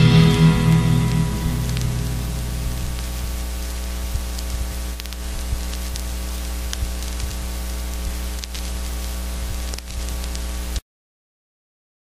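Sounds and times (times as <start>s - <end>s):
crackles and clicks: 0.0s - 10.8s
electrical hum: 0.0s - 10.8s
static hiss: 0.0s - 10.8s.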